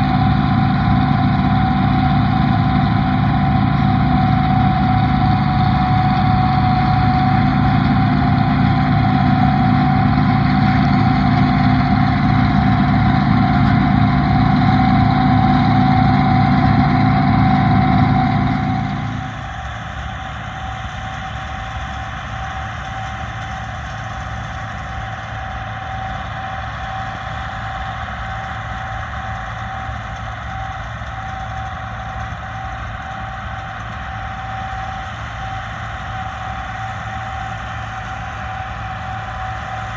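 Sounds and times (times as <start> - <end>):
combine harvester diesel engine: 0.0 - 39.9
constant whine: 0.0 - 39.9.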